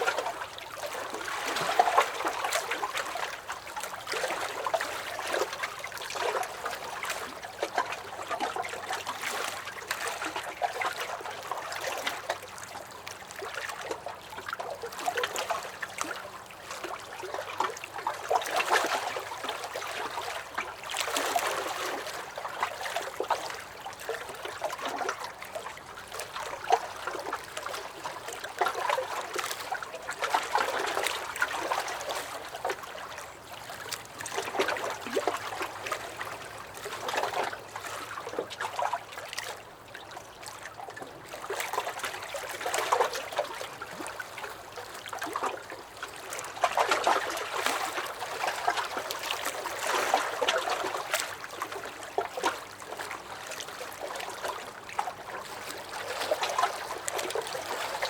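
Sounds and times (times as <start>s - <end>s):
waves lapping against a dock: 0.0s - 58.0s.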